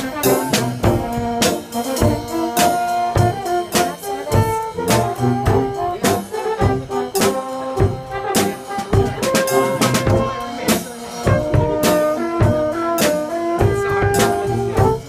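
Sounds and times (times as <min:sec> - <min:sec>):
brass melody: 0:00.0 - 0:15.0
marching bass drum: 0:00.0 - 0:15.0
snare drum beat: 0:00.0 - 0:15.0.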